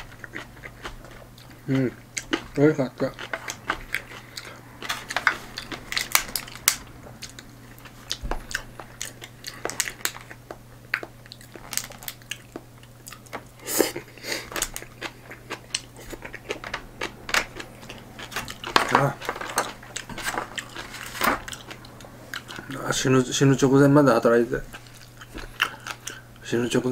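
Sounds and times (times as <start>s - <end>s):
person chewing food: 0.0s - 22.9s, 24.6s - 26.4s.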